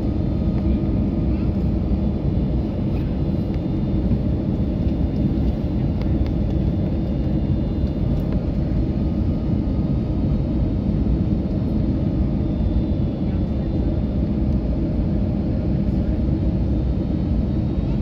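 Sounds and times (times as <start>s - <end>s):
faint steady whine: 0.0s - 18.0s
jet engine rumble in cabin: 0.0s - 18.0s.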